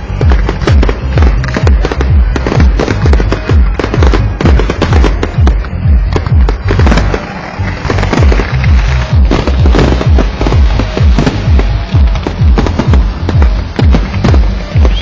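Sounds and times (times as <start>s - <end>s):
fireworks bursts and booms: 0.0s - 15.0s.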